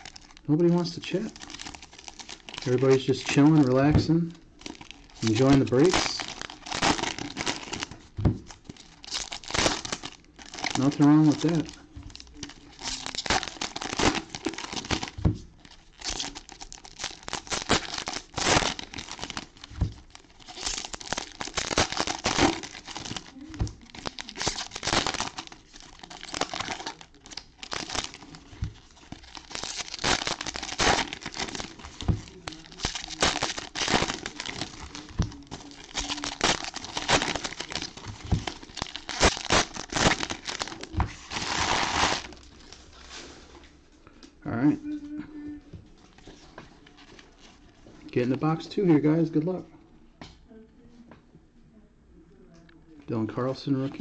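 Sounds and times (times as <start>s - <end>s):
wrappers tearing and crinkling: 0.0s - 43.2s.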